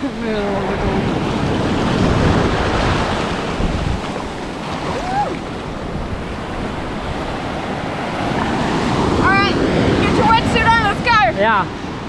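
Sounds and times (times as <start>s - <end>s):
ocean surf on beach: 0.0s - 12.0s
wind on microphone: 0.0s - 12.0s.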